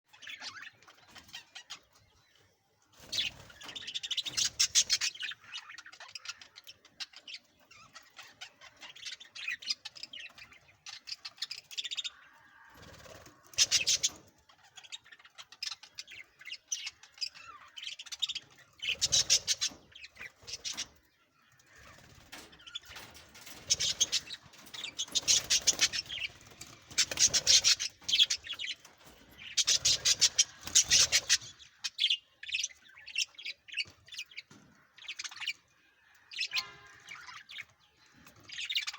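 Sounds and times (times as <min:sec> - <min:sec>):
budgerigars chirping and chattering: 0:00.1 - 0:38.9.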